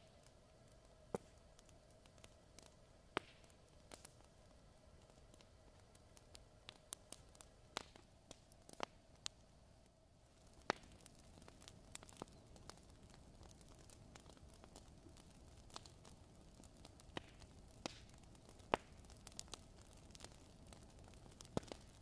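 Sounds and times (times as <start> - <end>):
faint steady hum: 0.0 - 22.0
fire crackling and popping: 0.0 - 22.0
soft hiss: 0.0 - 22.0.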